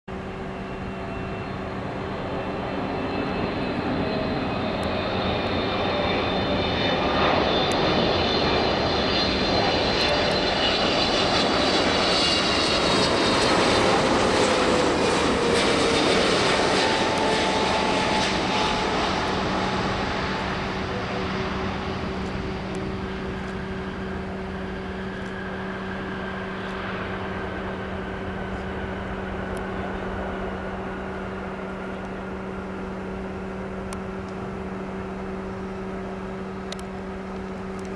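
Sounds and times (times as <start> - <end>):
jet airliner passing by: 0.1 - 37.9.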